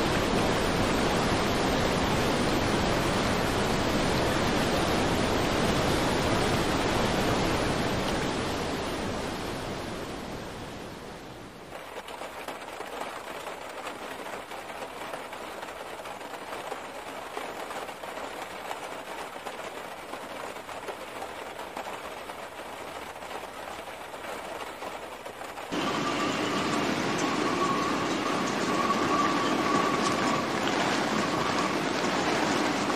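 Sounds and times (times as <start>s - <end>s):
floodwater rushing: 0.0s - 32.9s.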